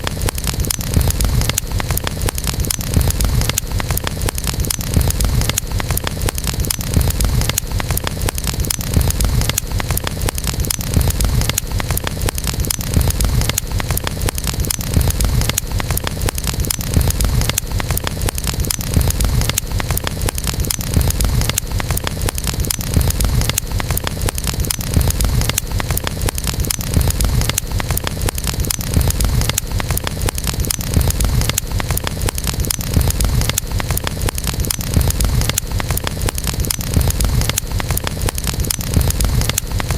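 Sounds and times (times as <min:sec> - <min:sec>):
campfire crackling: 0:00.0 - 0:39.9
low fire rumble: 0:00.0 - 0:39.9.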